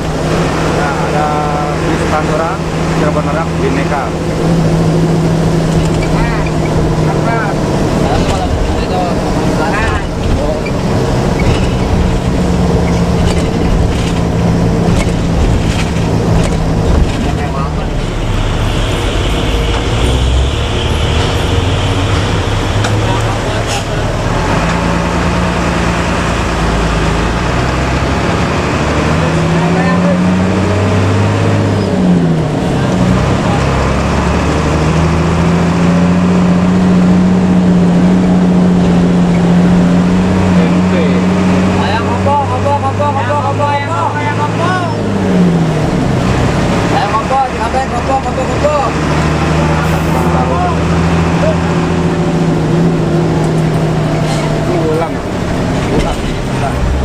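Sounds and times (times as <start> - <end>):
bus diesel engine droning: 0.0 - 57.0
road noise: 0.0 - 57.0.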